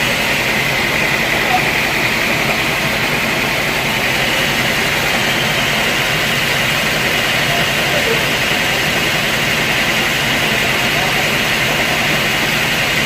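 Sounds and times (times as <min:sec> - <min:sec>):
sawmill saw cutting log: 0:00.0 - 0:13.0.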